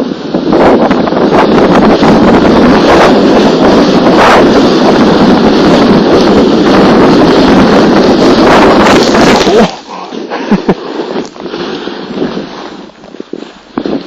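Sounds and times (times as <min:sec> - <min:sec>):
plastic sled scraping over snow: 0:00.0 - 0:14.0
wind rushing over microphone: 0:00.0 - 0:14.0.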